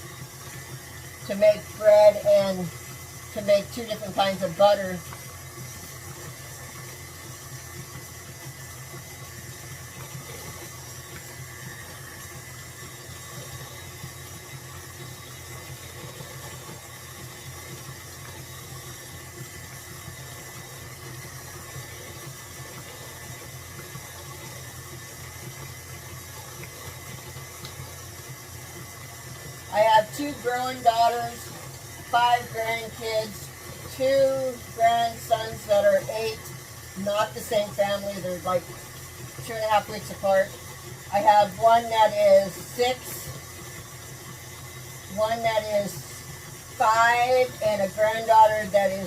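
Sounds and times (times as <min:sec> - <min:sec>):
cream splashing in bowl: 0:00.0 - 0:49.0
stand mixer running: 0:00.0 - 0:49.0.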